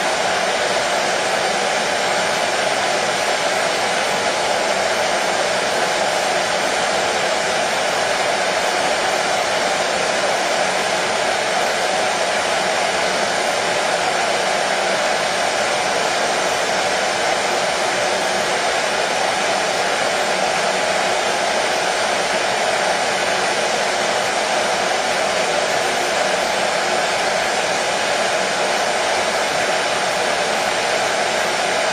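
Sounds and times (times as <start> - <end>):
hair dryer running: 0.0 - 31.9.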